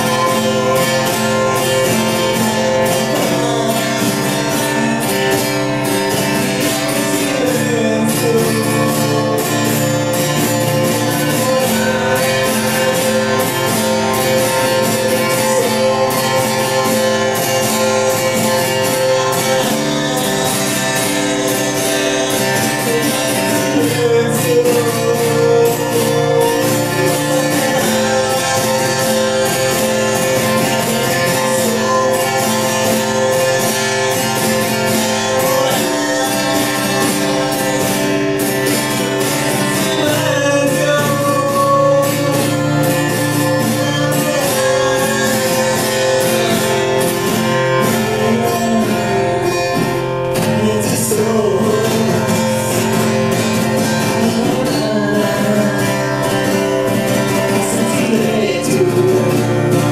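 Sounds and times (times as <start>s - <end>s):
acoustic guitar: 0.0s - 59.9s
person singing: 0.0s - 59.9s.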